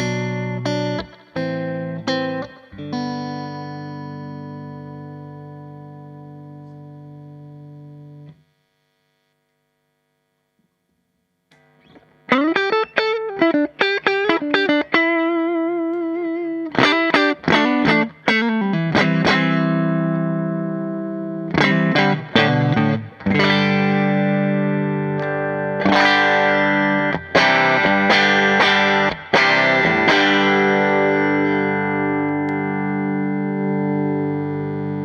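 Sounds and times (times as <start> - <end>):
electric guitar playing: 0.0 - 8.4, 11.5 - 35.0.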